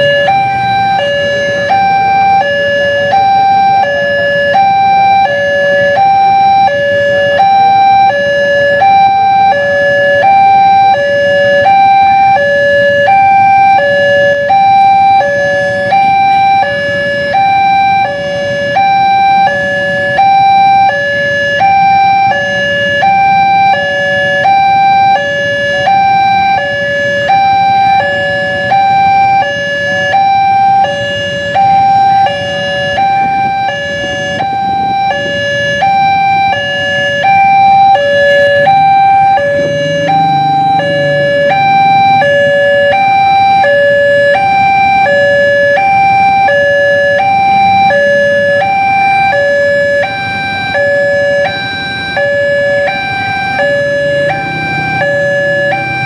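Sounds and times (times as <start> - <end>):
crossing alarm alternating tones: 0.0 - 56.0
traffic rumble: 0.0 - 56.0.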